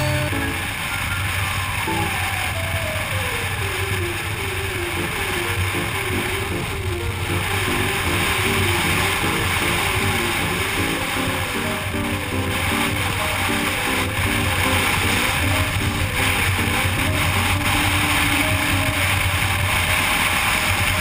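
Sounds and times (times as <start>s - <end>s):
background music: 0.0s - 21.0s
motorcycle engine cruising: 0.0s - 21.0s.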